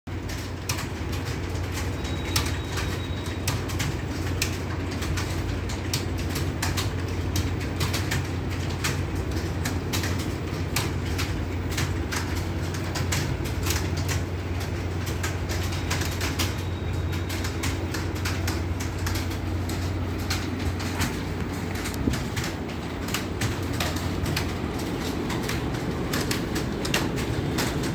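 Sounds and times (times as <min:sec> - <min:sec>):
steady low hum: 0:00.1 - 0:27.9
keyboard typing clicks: 0:00.2 - 0:27.9.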